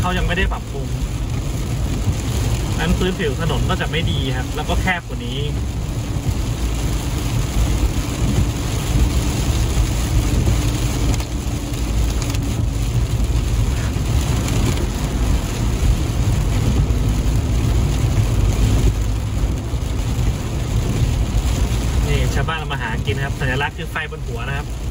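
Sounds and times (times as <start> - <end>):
engine and tyres rumbling: 0.0 - 24.9
rain hissing on windscreen: 0.0 - 24.9.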